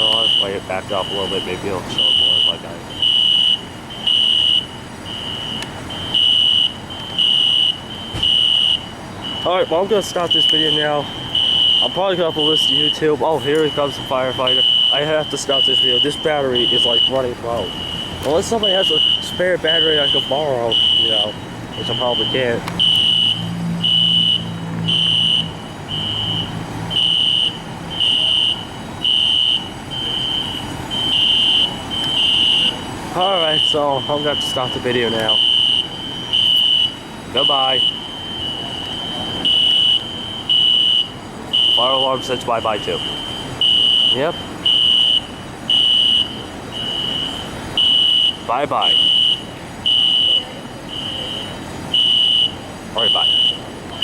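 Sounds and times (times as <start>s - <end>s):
fire alarm beeping: 0.0s - 54.0s.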